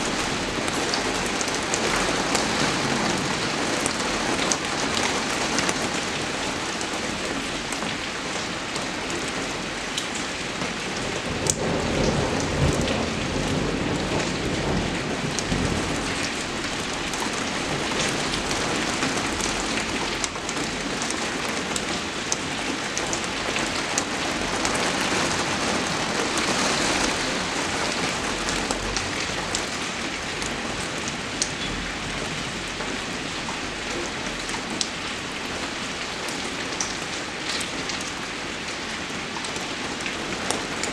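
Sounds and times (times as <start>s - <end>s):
rain falling: 0.0s - 40.9s
raindrops ticking close by: 0.0s - 40.9s.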